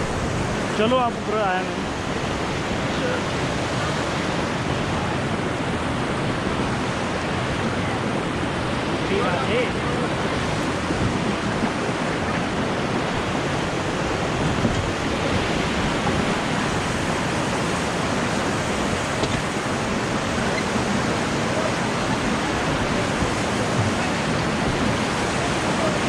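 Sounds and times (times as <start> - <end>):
whitewater rushing: 0.0 - 26.0.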